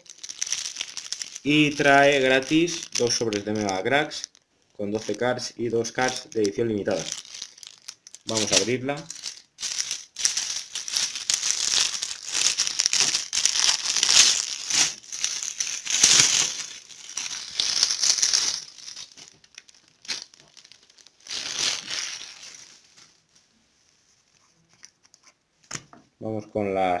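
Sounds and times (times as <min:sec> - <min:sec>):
plastic wrapping crinkling: 0:00.0 - 0:25.8.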